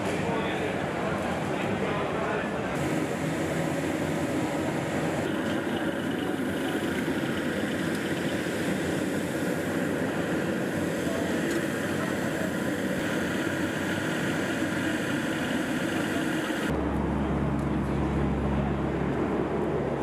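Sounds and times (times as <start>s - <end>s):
engine drone: 2.8s - 20.0s.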